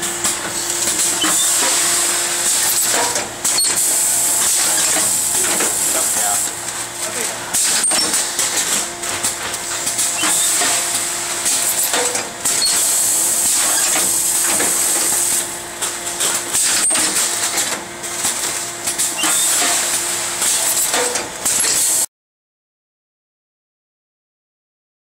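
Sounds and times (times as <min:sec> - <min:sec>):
faint machine hum: 0:00.0 - 0:22.0
packing machine hissing: 0:00.0 - 0:22.1
pneumatic sealer clicks and clacks: 0:00.0 - 0:22.1.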